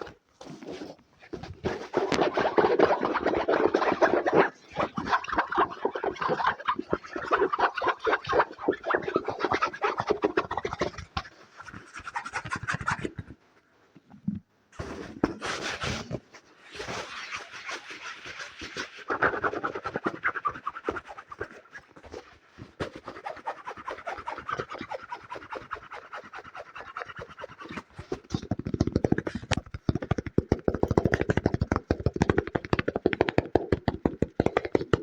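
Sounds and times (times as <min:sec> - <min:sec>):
fast scratching and tapping: 0:00.0 - 0:13.4, 0:14.8 - 0:35.0.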